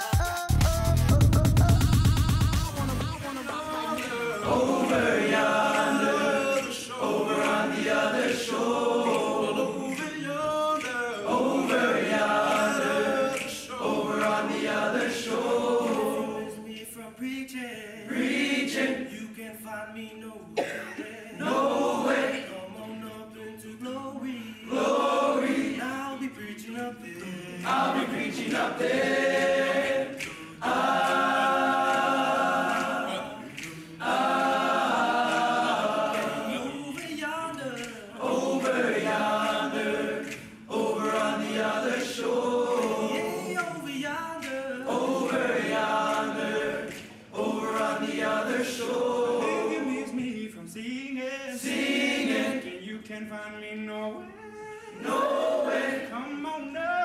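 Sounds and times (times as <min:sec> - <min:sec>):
boys choir singing: 0:00.0 - 0:19.6, 0:20.6 - 0:53.0, 0:54.9 - 0:57.0.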